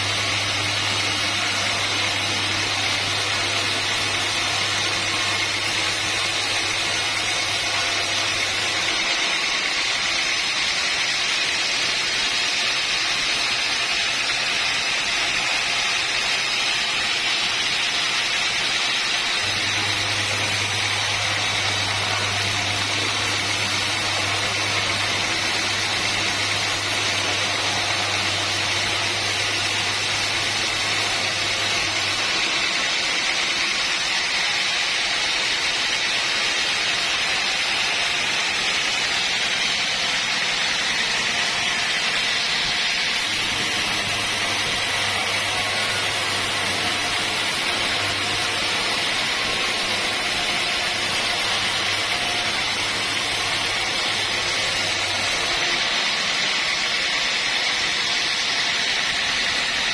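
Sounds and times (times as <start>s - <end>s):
sawmill machinery whirring: 0.0s - 59.9s.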